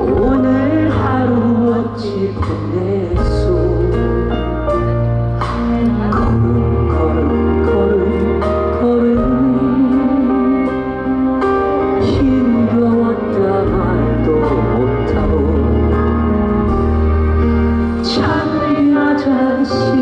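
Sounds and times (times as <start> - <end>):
band playing slow ballad: 0.0 - 20.0
man singing: 0.0 - 20.0
sustained keyboard chords: 0.0 - 20.0.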